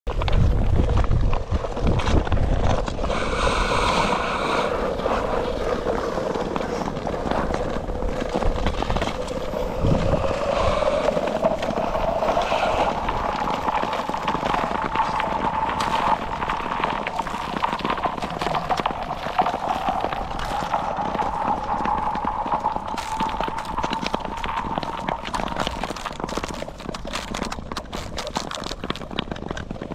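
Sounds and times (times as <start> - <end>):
skate clicks and scrapes: 0.1 - 29.9.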